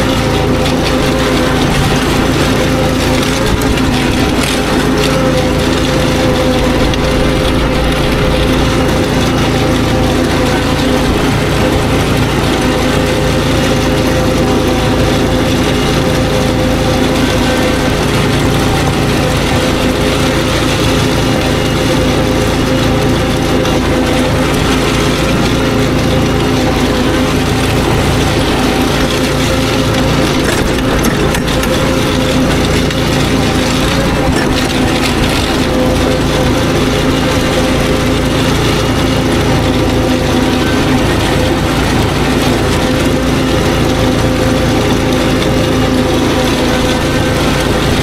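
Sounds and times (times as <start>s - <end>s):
small engine running: 0.0s - 48.0s.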